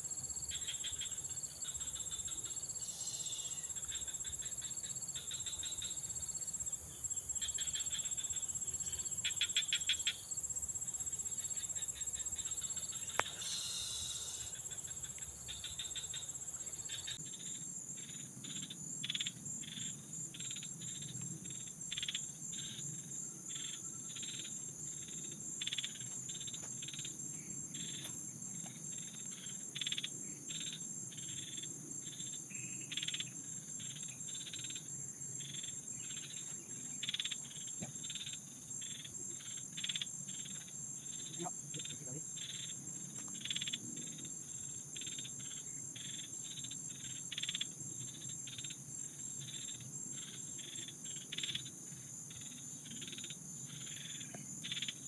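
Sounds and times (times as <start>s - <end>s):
insects buzzing and chirping: 0.0s - 55.0s.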